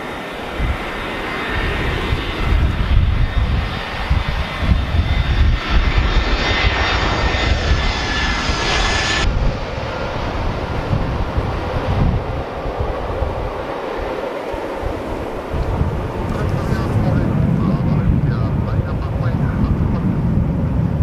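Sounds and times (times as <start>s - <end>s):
jet engine whine: 0.0s - 21.0s
low jet rumble: 0.0s - 21.0s.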